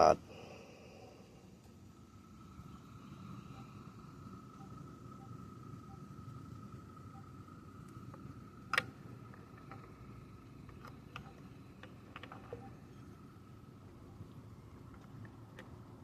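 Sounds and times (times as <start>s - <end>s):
low steady hum: 0.0s - 16.0s
thin steady whine: 0.0s - 16.0s.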